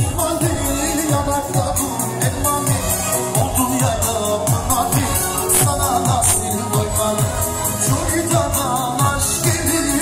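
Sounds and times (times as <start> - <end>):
singing over fast drum beat: 0.0 - 10.0.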